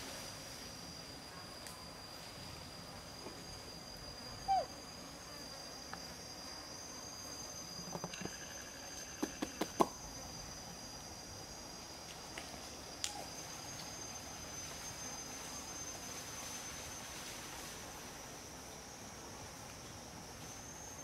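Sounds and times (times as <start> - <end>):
forest insects droning: 0.0 - 21.0.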